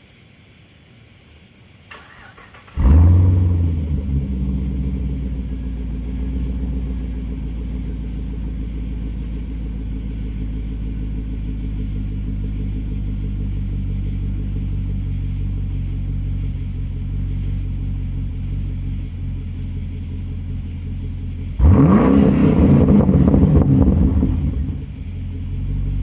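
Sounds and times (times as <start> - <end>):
car engine starting and idling: 1.9 - 26.0.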